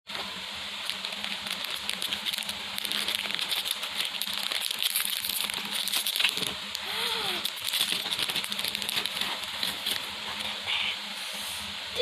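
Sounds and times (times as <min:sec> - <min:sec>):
low steady hum: 0:00.1 - 0:12.0
crisp eating crunches: 0:00.8 - 0:10.7.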